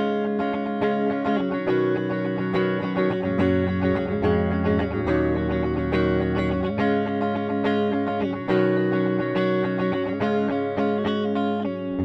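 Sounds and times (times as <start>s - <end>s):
clean electric guitar: 0.0s - 12.0s.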